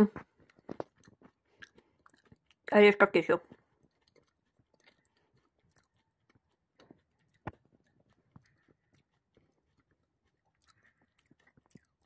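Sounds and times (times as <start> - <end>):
person chewing nuts: 0.1 - 2.7, 3.4 - 12.0.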